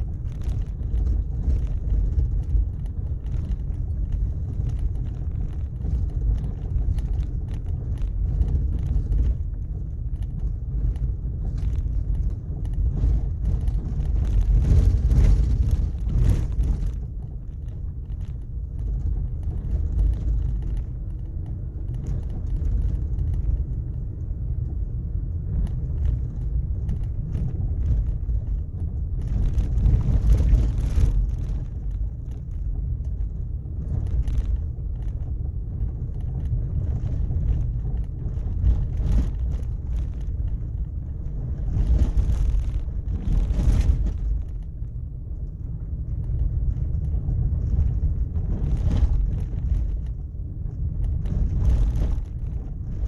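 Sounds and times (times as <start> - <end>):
vehicle road rumble: 0.0 - 53.0.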